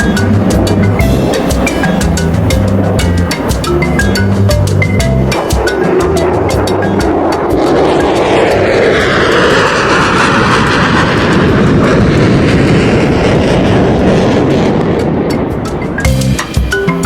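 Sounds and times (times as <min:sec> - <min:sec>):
airplane passing by: 0:00.0 - 0:16.1.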